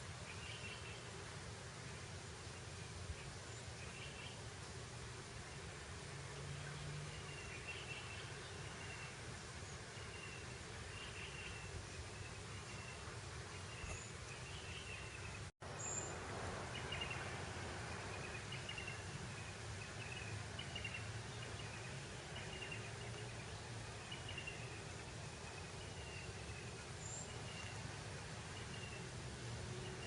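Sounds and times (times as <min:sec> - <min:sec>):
breeze over grassland: 0:00.0 - 0:30.0.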